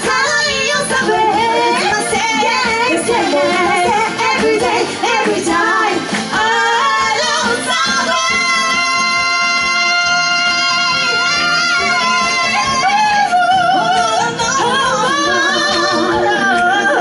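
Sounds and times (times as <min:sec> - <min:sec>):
backing music: 0:00.0 - 0:17.0
women singing a pop song: 0:00.0 - 0:17.0.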